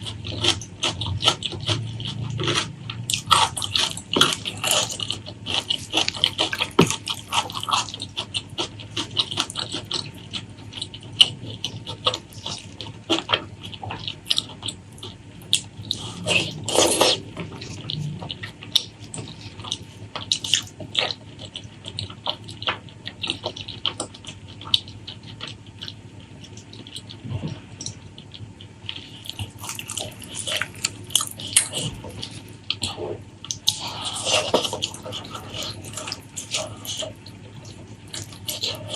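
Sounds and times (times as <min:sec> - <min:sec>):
wet chewing and lip smacking: 0:00.0 - 0:27.2, 0:27.8 - 0:38.9.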